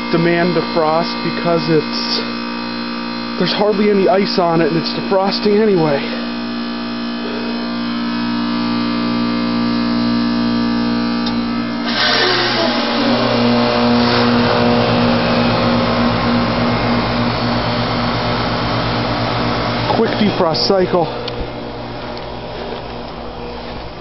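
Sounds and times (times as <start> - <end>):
compressor humming: 0.0 - 24.0
rush of refrigerant: 0.0 - 24.0.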